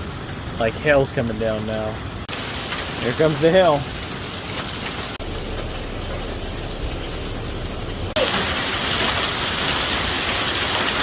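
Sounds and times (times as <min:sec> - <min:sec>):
heavy rain with hail: 0:00.0 - 0:11.0.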